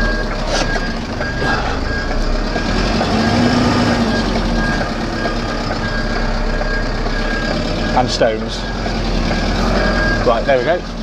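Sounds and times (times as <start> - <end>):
diesel engine running: 0.0 - 11.0
reversing alarm beeping: 0.0 - 11.0.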